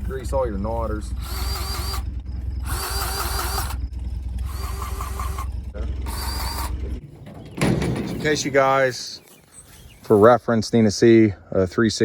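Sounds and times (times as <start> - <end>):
grease gun whining: 0.0 - 9.7
low hum: 0.0 - 10.1.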